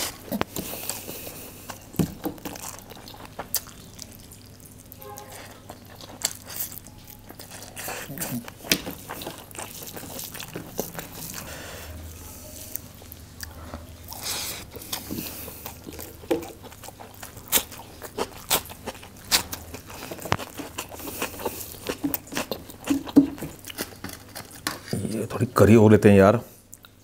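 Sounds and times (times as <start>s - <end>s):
person chewing food: 0.0s - 25.2s, 26.6s - 27.0s
crunching raw onion: 0.0s - 25.3s.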